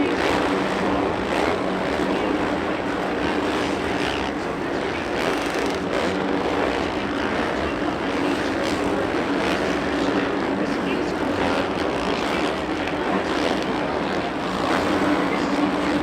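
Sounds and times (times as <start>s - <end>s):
dirt bike engine running hard: 0.0s - 16.0s.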